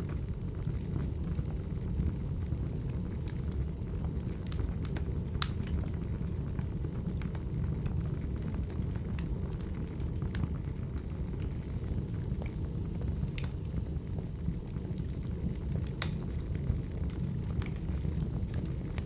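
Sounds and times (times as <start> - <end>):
logs crackling and popping: 0.0 - 19.0
wood fire rumble: 0.0 - 19.0.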